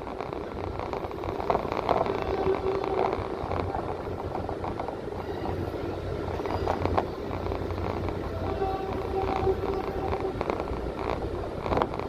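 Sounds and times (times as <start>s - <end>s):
vehicle rumble inside cabin: 0.0s - 12.0s.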